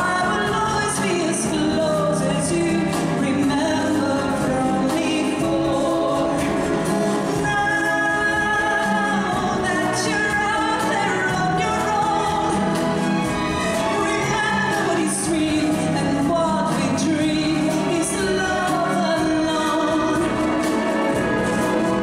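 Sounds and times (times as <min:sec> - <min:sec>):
live instrumental accompaniment: 0:00.0 - 0:22.0
woman singing into microphone: 0:00.0 - 0:22.0.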